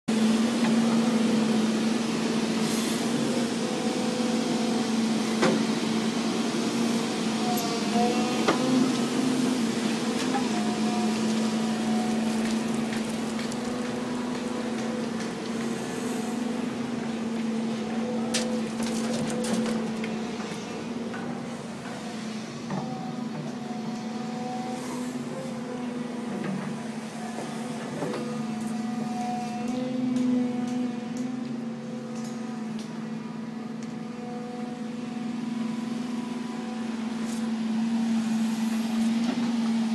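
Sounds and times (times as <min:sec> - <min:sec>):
construction machinery engine droning: 0:00.1 - 0:39.9.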